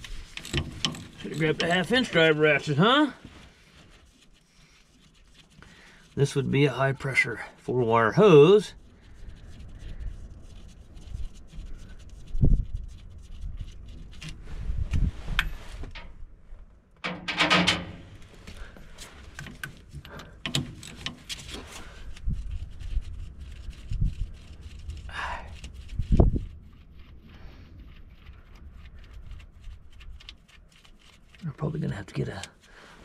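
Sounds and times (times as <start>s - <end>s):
gloves rubbing against hoses: 0.0s - 16.0s, 18.1s - 33.0s.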